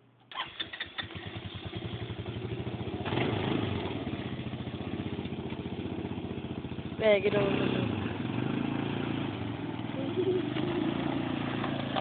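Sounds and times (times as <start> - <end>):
atv engine idling and revving: 0.7 - 12.0.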